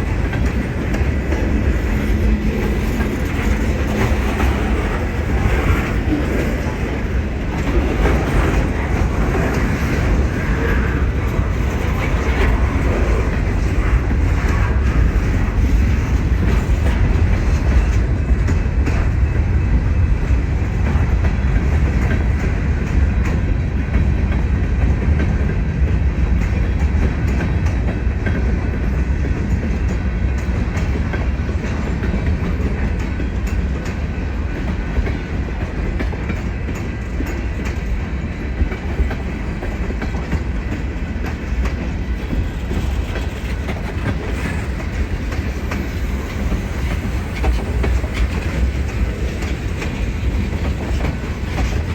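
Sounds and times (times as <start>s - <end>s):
railroad cars rolling past: 0.0s - 51.9s
wheels clicking over rail joints: 0.0s - 51.9s.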